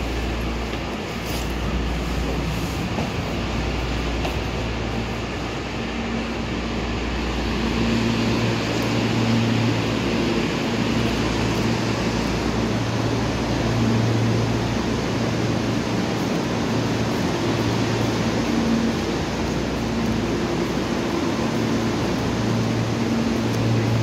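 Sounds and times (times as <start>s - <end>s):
low drone: 0.0s - 24.0s
train hum at standstill: 0.0s - 24.0s.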